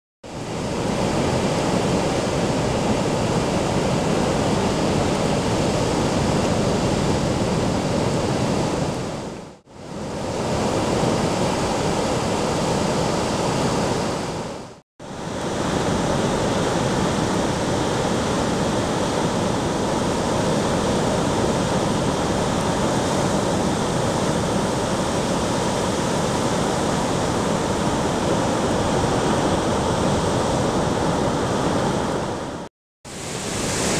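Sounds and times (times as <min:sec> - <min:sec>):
ocean surf washing: 0:00.3 - 0:33.9.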